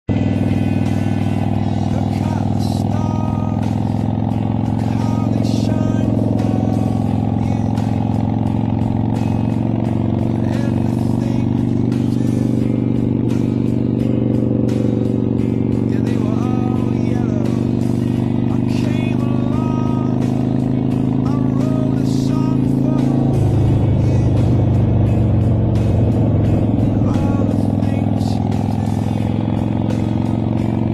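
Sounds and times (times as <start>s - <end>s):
motorcycle engine running steadily: 0.0s - 30.9s.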